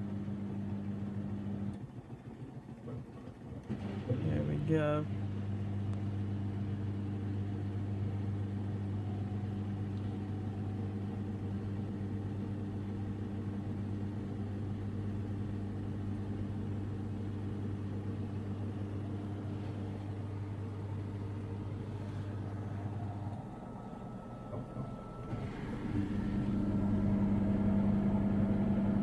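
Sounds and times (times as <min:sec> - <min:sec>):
washing machine spinning hum: 0:00.0 - 0:29.0.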